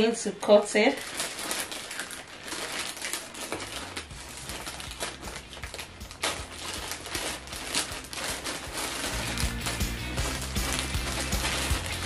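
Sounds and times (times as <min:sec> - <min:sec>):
plastic crinkling: 0:00.0 - 0:12.0
scissors snipping plastic: 0:00.5 - 0:12.0.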